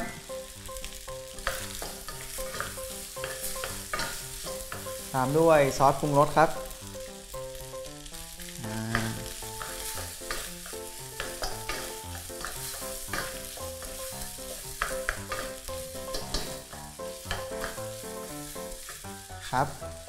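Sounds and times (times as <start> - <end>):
wooden spatula scraping wok: 0.0 - 7.6, 8.4 - 20.0
quiet background music: 0.0 - 20.0
rice sizzling in a wok: 0.0 - 20.0.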